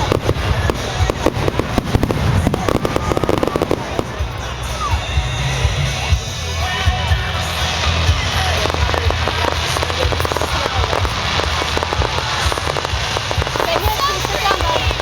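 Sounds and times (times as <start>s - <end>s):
low thuds: 0.0s - 13.7s
fireworks crackling: 0.0s - 15.0s.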